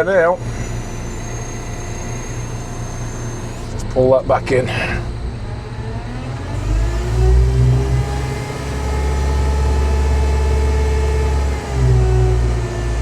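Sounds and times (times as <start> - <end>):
diesel engine revving: 0.0 - 13.0
hydraulics pulling boom: 0.0 - 13.0.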